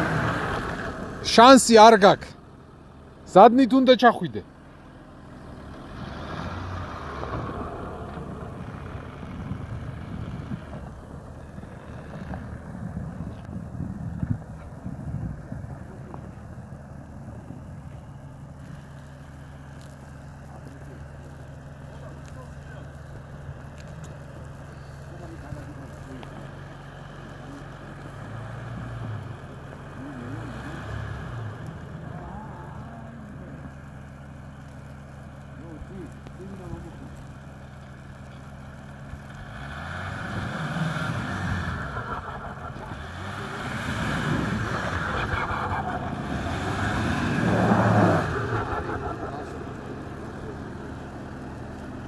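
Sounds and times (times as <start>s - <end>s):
pickup engine rumbling: 0.0s - 52.0s.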